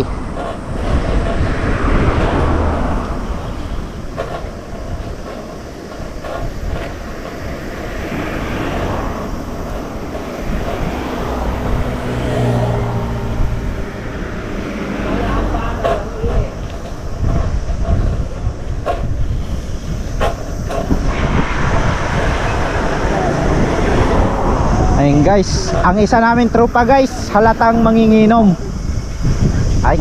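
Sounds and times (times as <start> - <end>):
engine hum passing: 0.0 - 29.2
road traffic rushing: 0.0 - 30.0
vehicles passing: 0.0 - 30.0.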